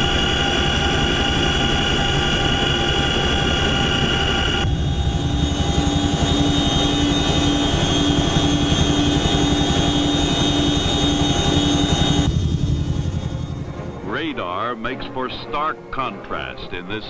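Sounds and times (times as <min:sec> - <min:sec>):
helicopter engine and rotor: 0:00.0 - 0:15.2.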